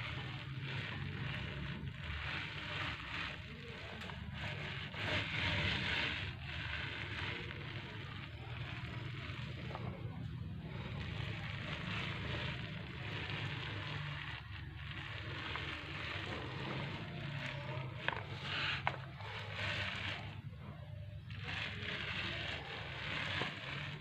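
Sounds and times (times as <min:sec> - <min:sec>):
sponge roller on wet coating: 0:00.0 - 0:24.0.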